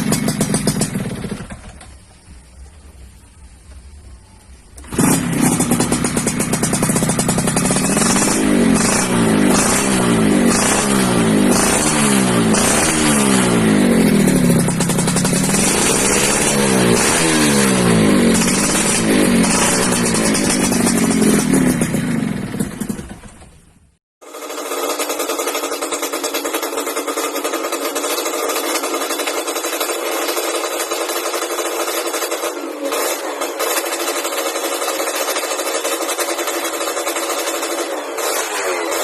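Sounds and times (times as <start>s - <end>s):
two-stroke engine revving: 0.0s - 1.9s, 4.8s - 39.0s.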